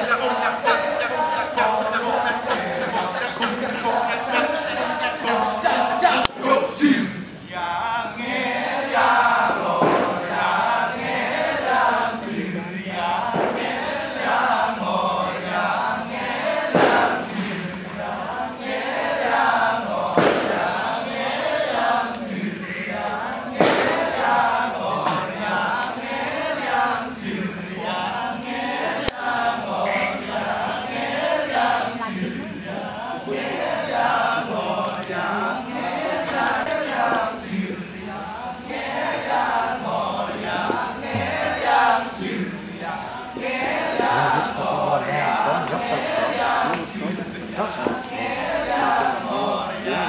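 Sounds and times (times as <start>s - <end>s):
male chorus chanting: 0.0s - 50.0s.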